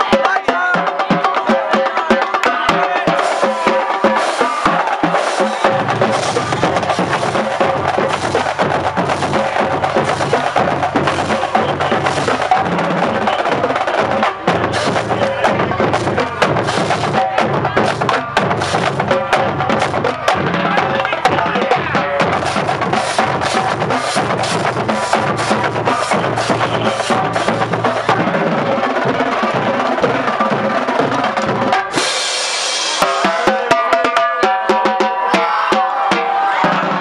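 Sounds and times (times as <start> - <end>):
bass drums: 0.0 - 37.0
snare and tenor drums: 0.0 - 37.0.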